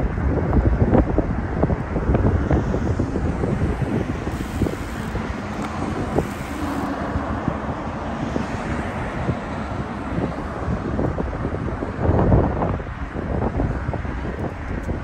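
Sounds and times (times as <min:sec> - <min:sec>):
road traffic: 0:00.0 - 0:15.0
wind buffeting microphone: 0:00.0 - 0:15.0.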